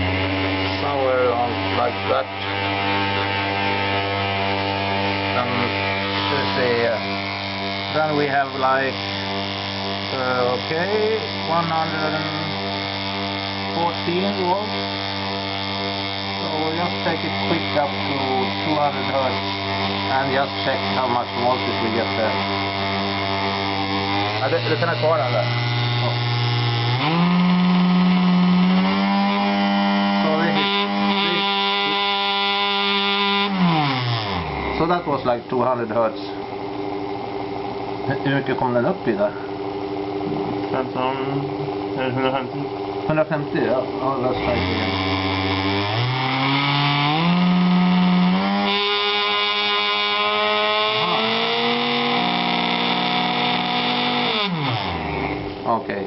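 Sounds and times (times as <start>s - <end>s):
electric pump motor whine: 0.0s - 56.0s.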